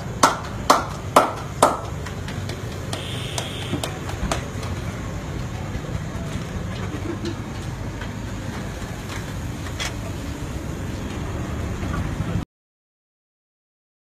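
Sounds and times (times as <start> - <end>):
low rumble of traffic: 0.0 - 12.5.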